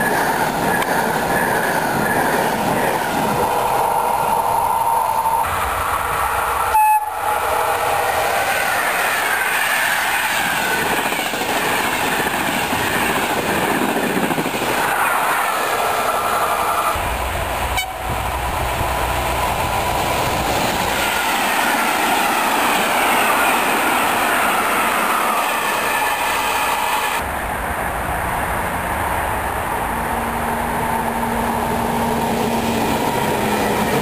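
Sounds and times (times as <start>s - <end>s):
electric train passing: 0.0s - 34.0s
freight train rolling past: 0.0s - 34.0s.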